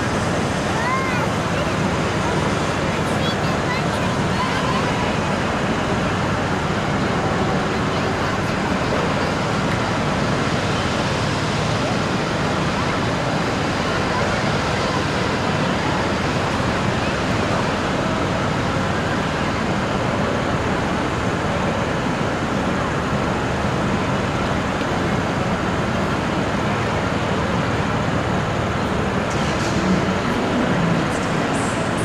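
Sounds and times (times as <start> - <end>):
train rushing at speed: 0.0 - 32.0.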